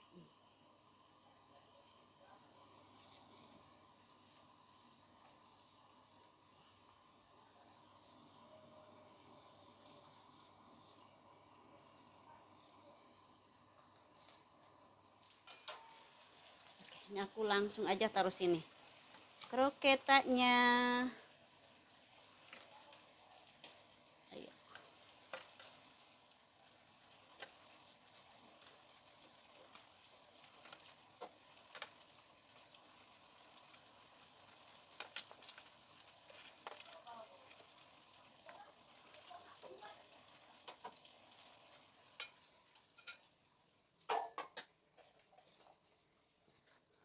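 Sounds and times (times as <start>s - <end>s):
food sizzling in deep fryer oil: 0.0s - 47.0s.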